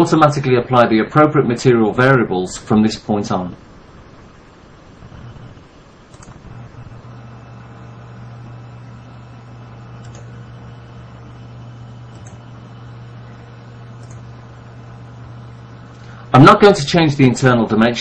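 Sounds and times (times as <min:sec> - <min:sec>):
background hiss: 0:00.0 - 0:18.0
low electrical hum: 0:00.0 - 0:18.0.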